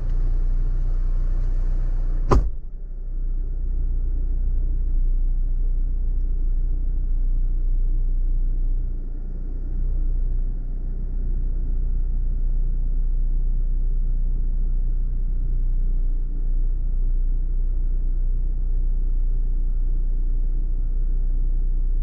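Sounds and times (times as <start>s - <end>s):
off-road vehicle engine drone: 0.0s - 22.0s.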